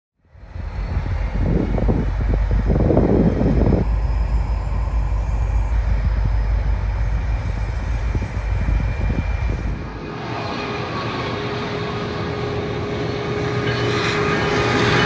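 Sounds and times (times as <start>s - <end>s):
trains rumbling: 0.2s - 15.0s.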